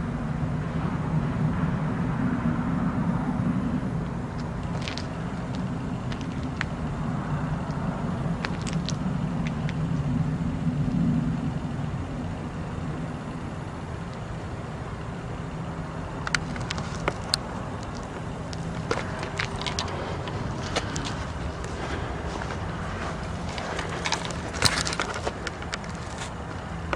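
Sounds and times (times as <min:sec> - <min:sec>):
loud low roar from the sky: 0:00.0 - 0:26.9.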